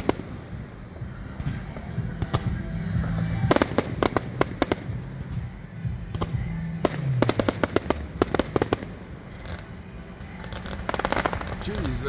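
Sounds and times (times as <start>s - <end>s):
fireworks cracking and banging: 0.0s - 5.5s, 6.1s - 12.0s.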